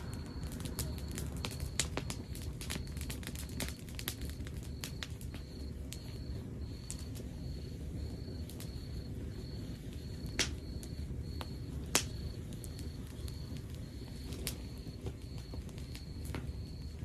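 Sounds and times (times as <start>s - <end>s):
log fire rumbling and crackling: 0.0s - 17.0s
sharp fire pops: 0.0s - 17.0s.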